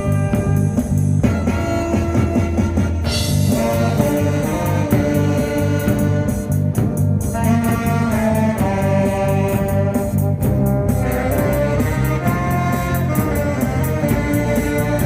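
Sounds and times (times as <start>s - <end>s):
bass and drum beat: 0.0s - 15.0s
brass horns playing melody: 0.0s - 15.0s.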